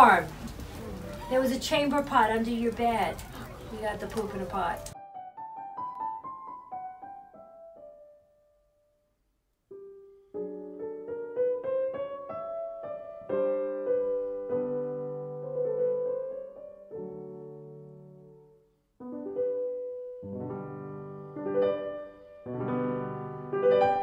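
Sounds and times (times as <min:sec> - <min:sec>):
piano music: 0:00.0 - 0:08.8, 0:09.7 - 0:24.0.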